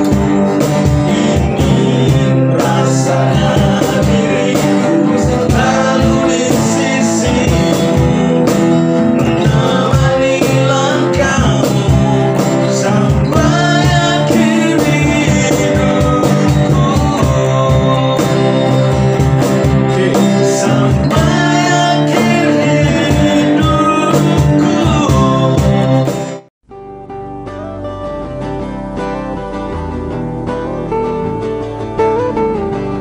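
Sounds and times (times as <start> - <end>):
pop love song with guitar: 0.0 - 33.0.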